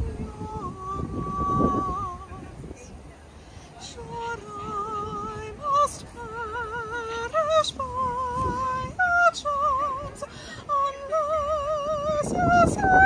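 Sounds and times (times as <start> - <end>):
woman singing unaccompanied: 0.0 - 3.1, 3.8 - 13.0.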